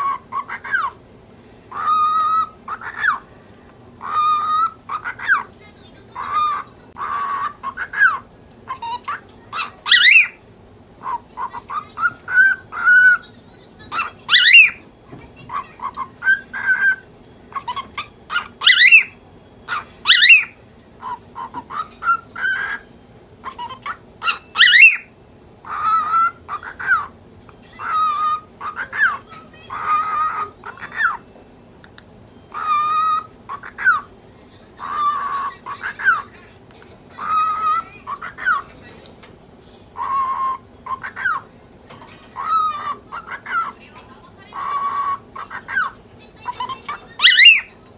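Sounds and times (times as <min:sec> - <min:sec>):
cockatiel chattering: 0:00.0 - 0:01.0, 0:01.7 - 0:03.3, 0:04.0 - 0:10.4, 0:11.0 - 0:39.3, 0:39.9 - 0:47.9.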